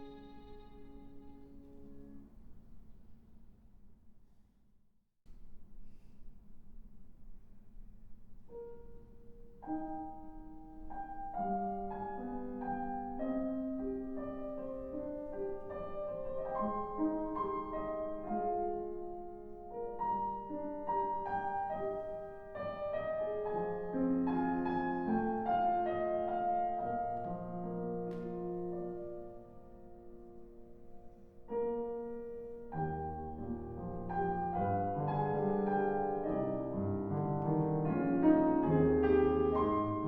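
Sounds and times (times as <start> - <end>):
classical piano music: 0.0 - 3.2, 7.4 - 40.0.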